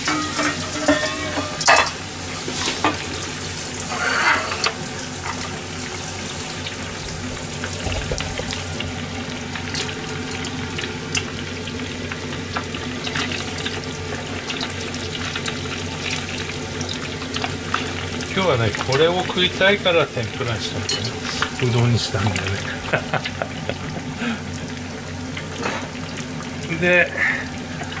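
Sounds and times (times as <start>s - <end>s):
deep-frying sizzle and crackles: 0.0s - 28.0s.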